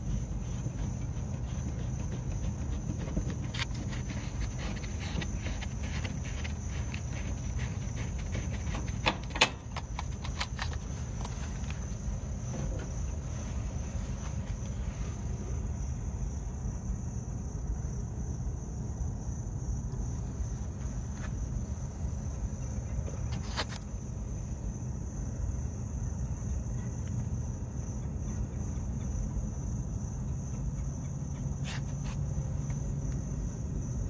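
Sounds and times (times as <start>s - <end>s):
insects trilling: 0.0s - 34.0s
low outdoor rumble: 0.0s - 34.0s.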